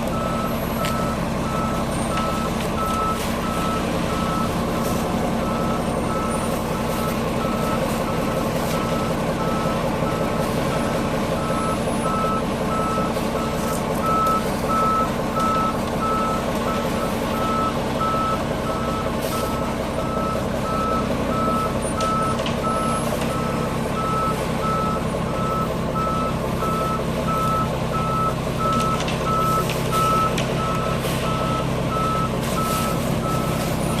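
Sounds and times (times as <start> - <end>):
reversing alarm beeping: 0.0 - 34.0
truck engine running: 0.0 - 34.0.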